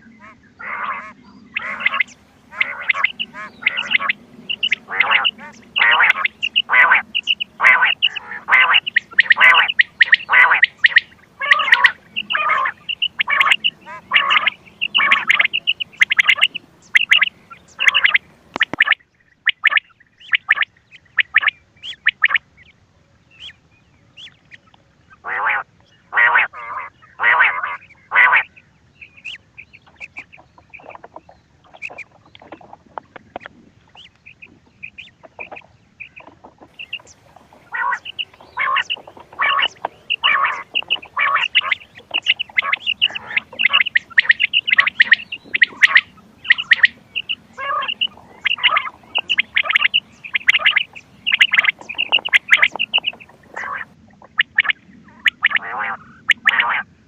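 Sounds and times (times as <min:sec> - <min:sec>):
recorded quail calls: 0:00.0 - 0:57.0.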